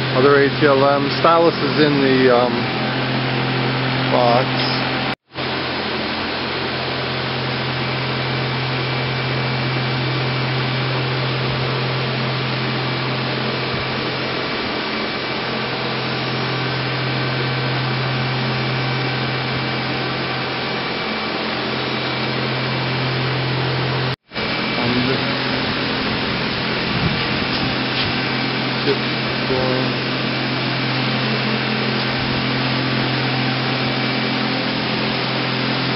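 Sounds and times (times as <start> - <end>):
machine idling whirring hum: 0.0 - 35.9.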